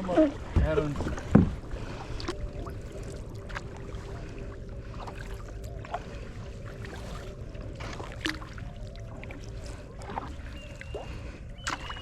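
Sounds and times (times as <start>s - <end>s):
faint steady hum: 0.0s - 12.0s
paddle splashing water: 0.0s - 12.0s
steady low rumble: 0.0s - 12.0s.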